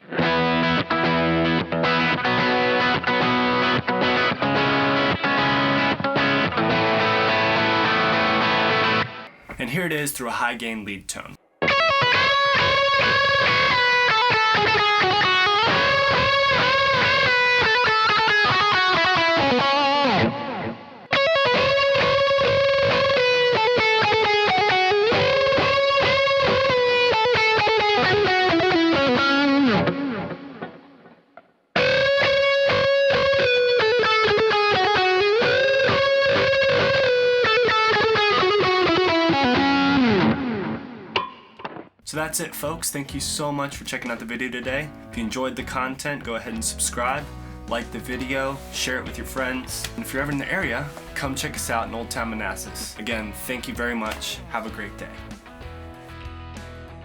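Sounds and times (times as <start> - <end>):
distorted lead guitar: 0.0 - 9.6, 11.6 - 31.2, 31.8 - 57.0.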